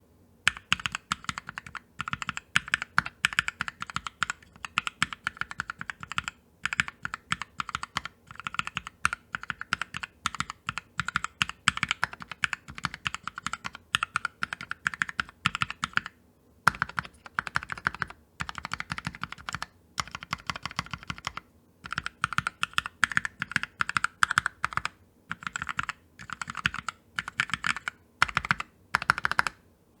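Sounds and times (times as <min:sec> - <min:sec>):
mechanical keyboard typing: 0:00.5 - 0:16.1, 0:16.7 - 0:29.6.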